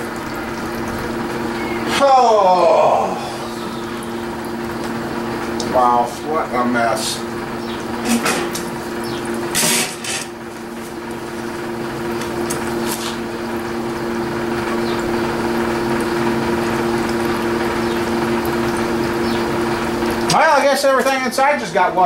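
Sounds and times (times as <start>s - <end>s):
steady two-tone hum: 0.0s - 22.0s.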